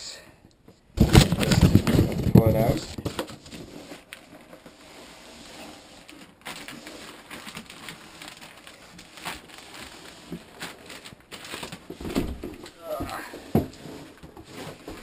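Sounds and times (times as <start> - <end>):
cardboard scraping: 1.0 - 15.0
plastic wrap rustling: 1.0 - 15.0.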